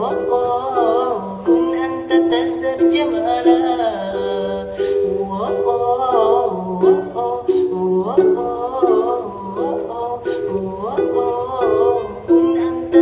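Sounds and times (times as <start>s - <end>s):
person singing wordless melody: 0.0s - 13.0s
plucked strings: 0.0s - 13.0s.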